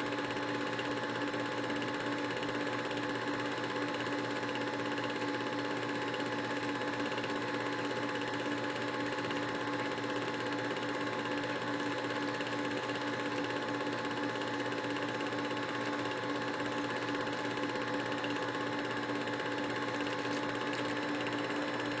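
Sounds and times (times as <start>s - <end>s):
film projector clatter: 0.0s - 22.0s.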